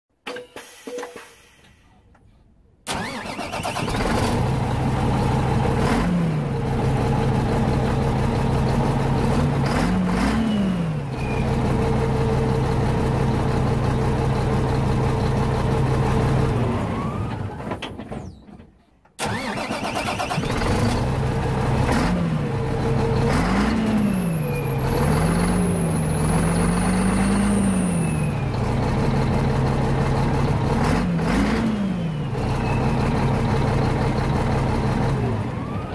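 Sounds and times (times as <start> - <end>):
diesel truck engine starting: 1.4 - 35.9
diesel engine idling and revving: 2.9 - 18.4, 19.2 - 35.9.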